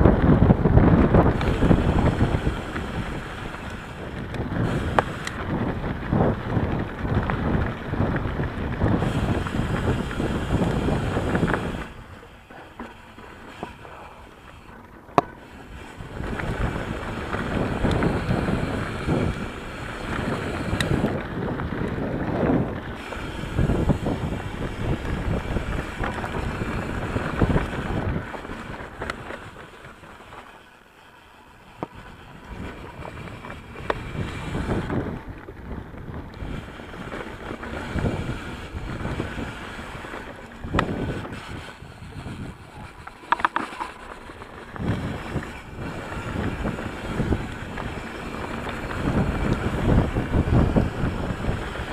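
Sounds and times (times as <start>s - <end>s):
wind buffeting microphone: 0.0s - 30.8s, 31.4s - 51.9s
bike rattles and clicks: 0.0s - 51.9s.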